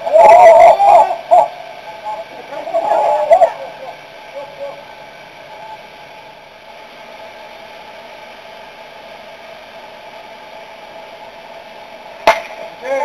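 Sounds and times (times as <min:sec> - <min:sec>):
faint hum: 0:00.0 - 0:13.0
outdoor background hiss: 0:00.0 - 0:13.0.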